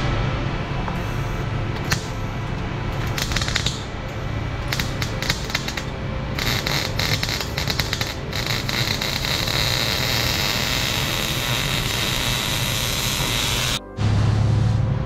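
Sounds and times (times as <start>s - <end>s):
arc welding crackling and hissing: 0.7s - 14.8s.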